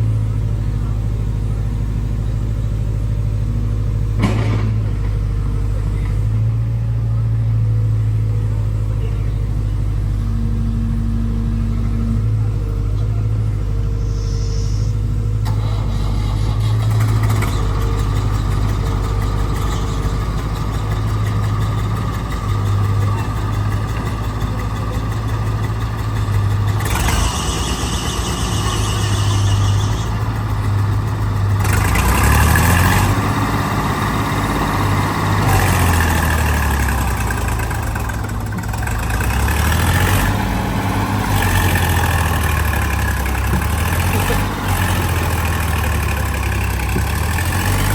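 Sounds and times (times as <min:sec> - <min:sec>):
heavy diesel engines revving: 0:00.0 - 0:47.9.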